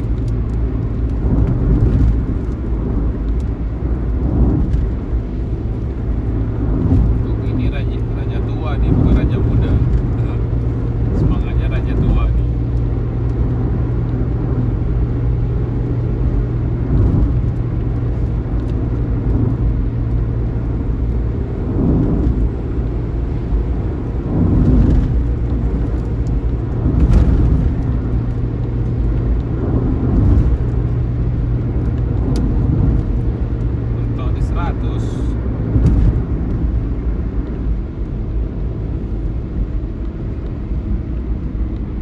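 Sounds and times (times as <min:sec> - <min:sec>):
bus engine drone: 0:00.0 - 0:42.0
road noise: 0:00.0 - 0:42.0.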